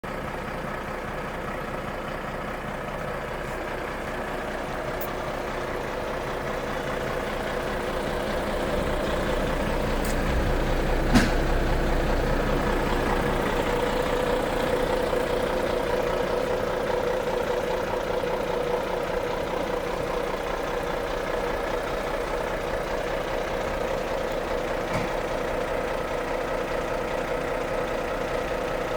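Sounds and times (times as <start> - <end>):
truck diesel engine running: 0.0 - 28.9.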